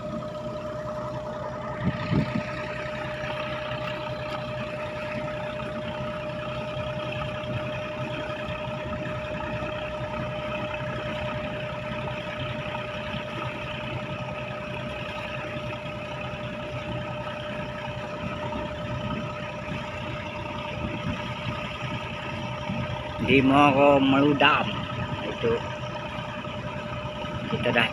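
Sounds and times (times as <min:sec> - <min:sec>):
boat engine droning: 0:00.0 - 0:27.9.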